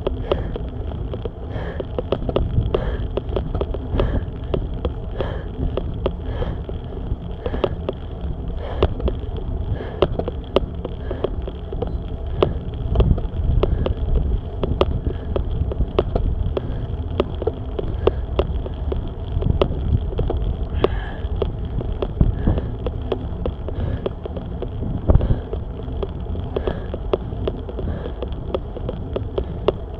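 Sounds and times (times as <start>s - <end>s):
bicycle rattling and clicking: 0.0s - 29.9s
rider breathing heavily: 0.0s - 29.9s
wind buffeting microphone: 0.0s - 29.9s.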